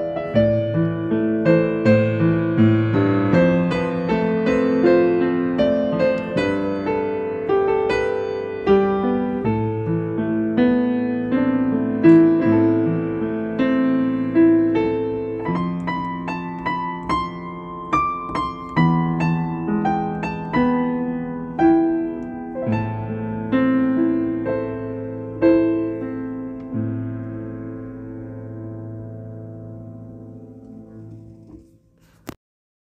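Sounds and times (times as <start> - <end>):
slow solo piano: 0.0 - 32.4.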